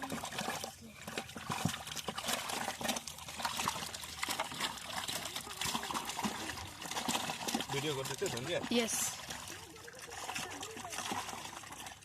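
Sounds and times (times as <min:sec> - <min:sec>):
pond water splashing and trickling: 0:00.0 - 0:12.0.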